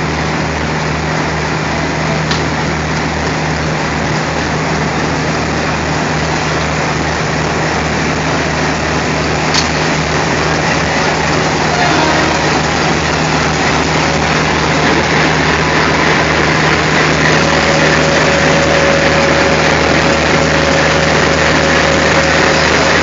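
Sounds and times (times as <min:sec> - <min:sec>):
diesel locomotive engine idling: 0:00.0 - 0:23.0
faint steady whine: 0:04.4 - 0:23.0.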